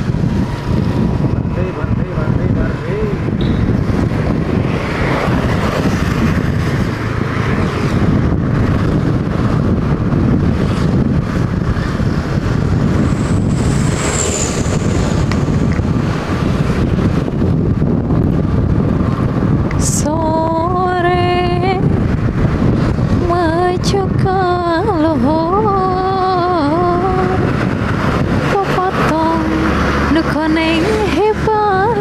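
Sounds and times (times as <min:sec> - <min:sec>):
motorcycle engine: 0:00.0 - 0:32.0
road noise: 0:00.0 - 0:32.0
wind buffeting microphone: 0:00.0 - 0:32.0.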